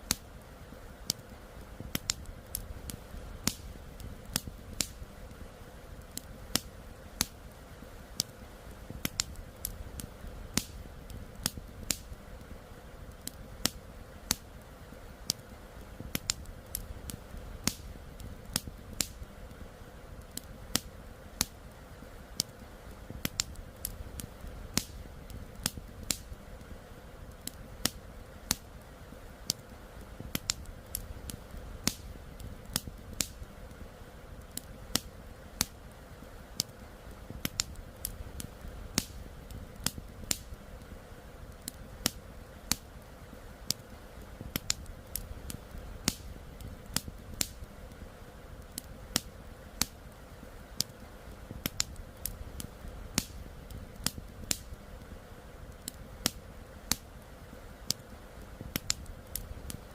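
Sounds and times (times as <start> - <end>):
campfire crackling and popping: 0.0 - 59.9
low rumble of burning wood: 0.0 - 59.9.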